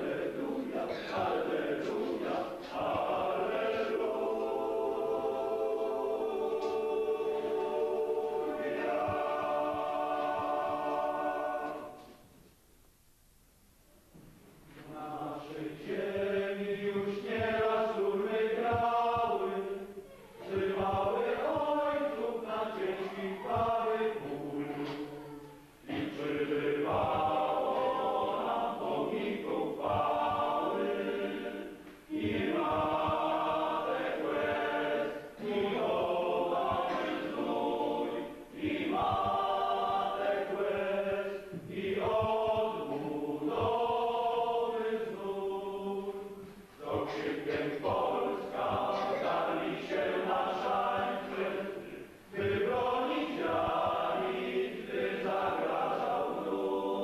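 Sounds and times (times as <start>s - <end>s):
group singing a hymn: 0.0s - 12.3s, 14.7s - 57.0s.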